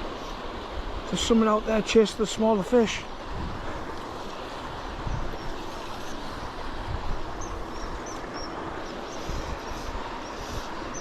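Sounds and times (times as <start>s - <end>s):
river water rushing: 0.0s - 11.0s
wind rumbling on microphone: 0.0s - 11.0s.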